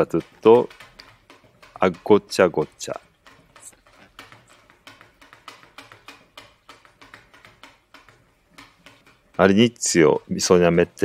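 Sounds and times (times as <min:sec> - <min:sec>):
utensil tapping plastic jug: 0:00.0 - 0:11.0.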